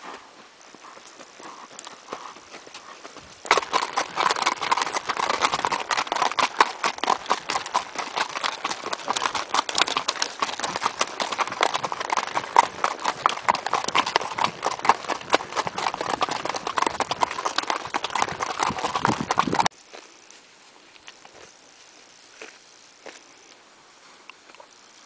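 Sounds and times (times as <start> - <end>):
horse hooves clip-clopping on dirt: 0.0 - 23.3.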